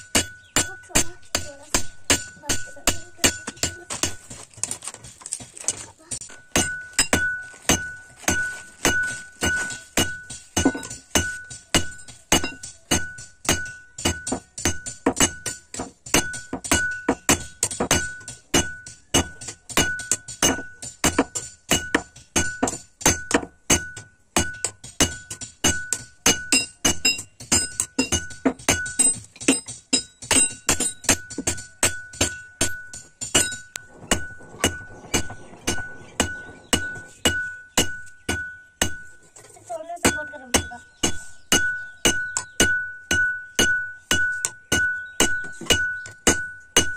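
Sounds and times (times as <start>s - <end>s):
hammer ringing on anvil: 6.3s - 39.2s, 40.0s - 46.9s.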